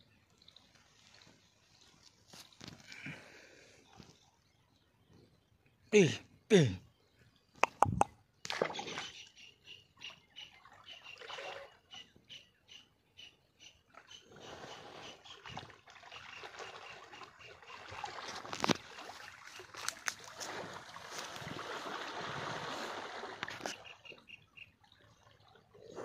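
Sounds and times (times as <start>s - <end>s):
water splashing and sloshing: 0.0s - 5.4s, 7.6s - 9.4s, 10.0s - 12.3s, 13.8s - 26.0s.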